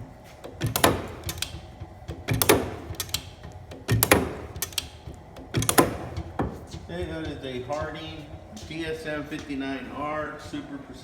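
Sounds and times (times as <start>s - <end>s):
lathe turret metallic clunk: 0.0s - 10.7s.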